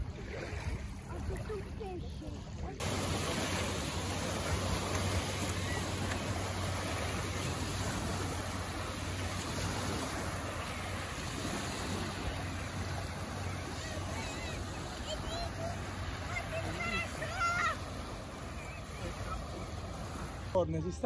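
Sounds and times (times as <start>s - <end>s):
waves lapping on pebble shore: 0.0s - 20.6s.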